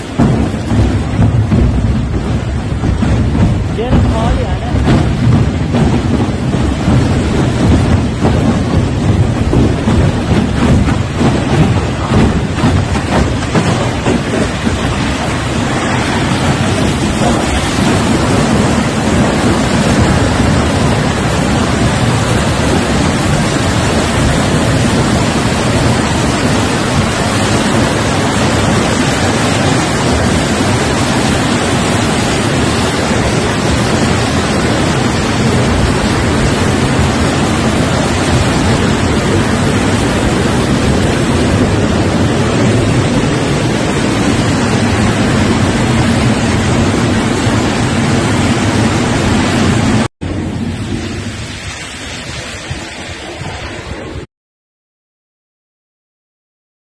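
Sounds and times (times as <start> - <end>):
water rushing from a dam: 0.0 - 54.2.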